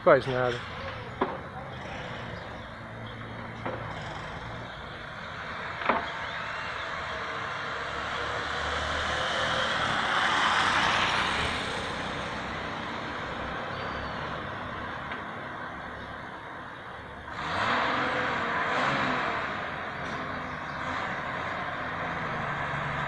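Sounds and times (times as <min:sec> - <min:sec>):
vehicle passing: 0:00.2 - 0:23.0.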